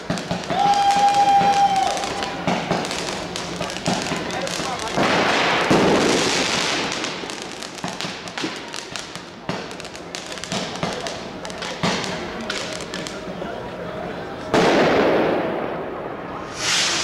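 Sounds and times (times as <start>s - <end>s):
firecrackers banging and popping: 0.0s - 13.3s, 14.5s - 17.0s
fireworks crackling burst: 0.0s - 13.3s, 14.5s - 17.0s.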